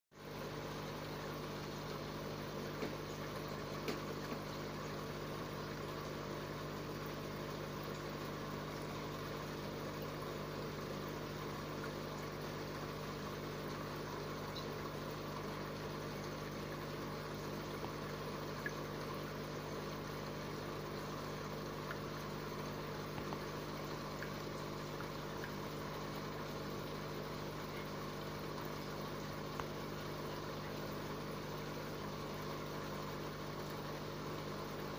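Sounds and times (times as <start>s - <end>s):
aquarium pump humming: 0.2s - 34.9s
running water: 0.2s - 34.9s.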